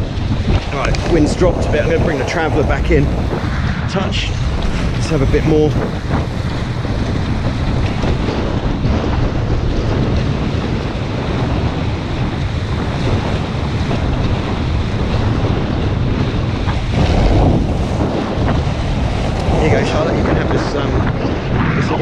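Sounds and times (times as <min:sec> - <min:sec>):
water rushing along hulls: 0:00.0 - 0:22.0
wind buffeting microphone: 0:00.0 - 0:22.0.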